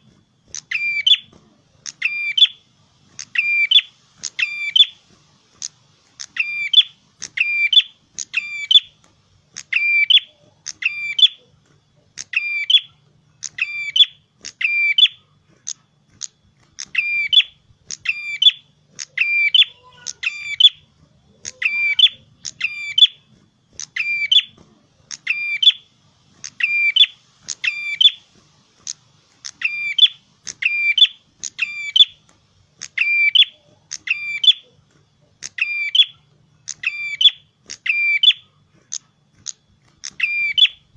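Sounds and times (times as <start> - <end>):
songbird sharp chirping: 0.5 - 15.3, 16.2 - 38.6, 39.4 - 40.9.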